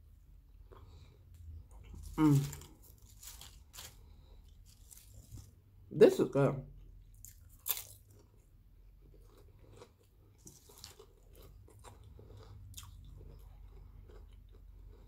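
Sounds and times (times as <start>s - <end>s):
chewing potato chips: 0.6s - 5.6s, 7.0s - 15.0s.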